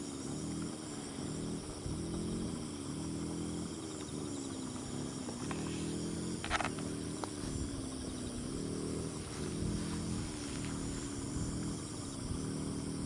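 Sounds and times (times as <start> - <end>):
insects trilling: 0.0 - 13.0
low wavering hum: 0.0 - 13.0.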